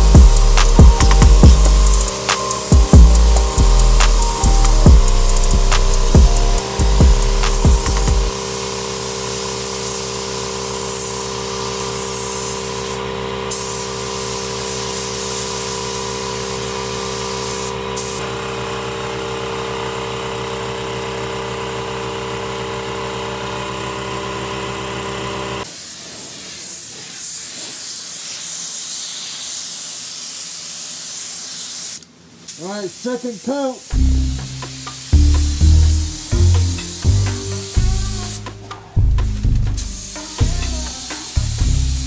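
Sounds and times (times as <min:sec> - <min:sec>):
spray gun hissing: 0:00.0 - 0:18.2, 0:25.6 - 0:42.0
machine hum: 0:00.0 - 0:25.6, 0:33.9 - 0:42.0.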